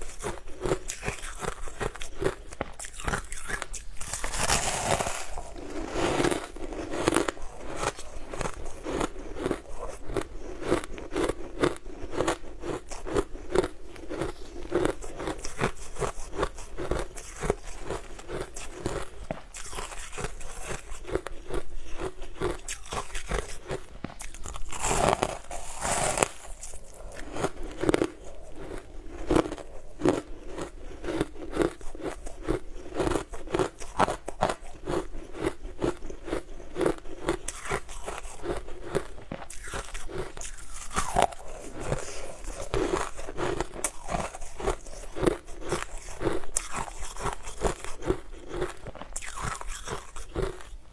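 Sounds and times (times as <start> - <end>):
ice crunching between teeth: 0.0 - 50.8.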